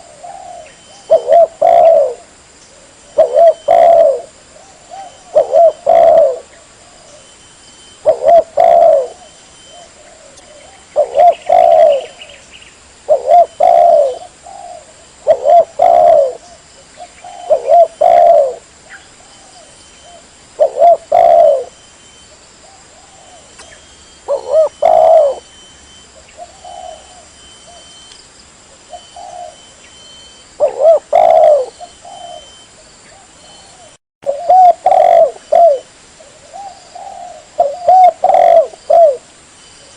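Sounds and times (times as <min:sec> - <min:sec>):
dove cooing: 0:00.0 - 0:07.4, 0:08.0 - 0:12.4, 0:13.1 - 0:21.8, 0:22.6 - 0:28.1, 0:28.9 - 0:39.9.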